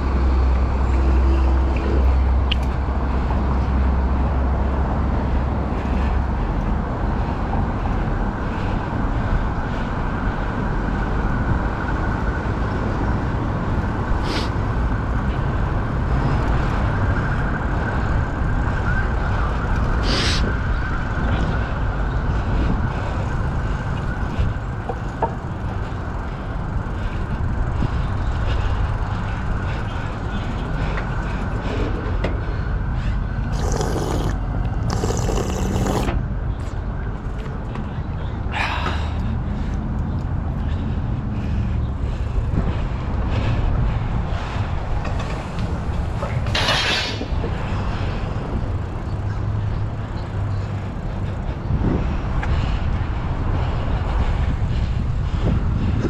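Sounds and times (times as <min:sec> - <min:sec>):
wind rush on microphone: 0:00.0 - 0:38.0, 0:38.6 - 0:56.0.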